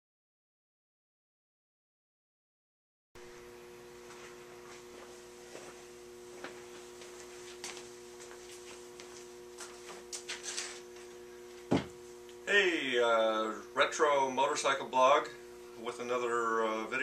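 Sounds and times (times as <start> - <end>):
steady electrical hum: 3.2 - 17.0.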